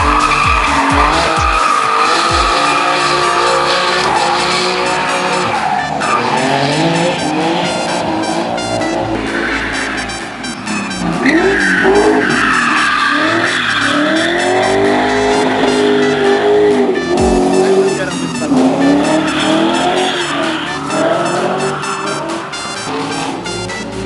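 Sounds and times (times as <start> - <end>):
car engine revving: 0.0 - 24.0
tyres squealing on asphalt: 0.0 - 24.0.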